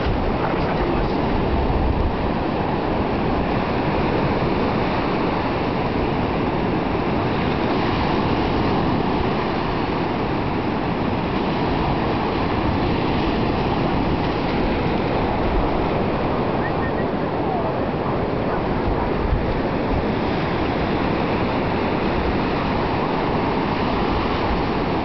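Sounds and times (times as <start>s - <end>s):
waves: 0.0s - 25.0s
wind: 0.0s - 25.0s
wind rumble on microphone: 0.0s - 25.0s.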